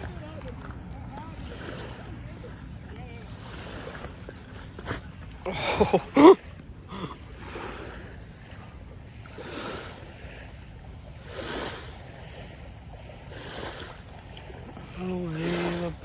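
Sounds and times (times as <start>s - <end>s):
small waves on sandy shore: 0.0s - 16.0s.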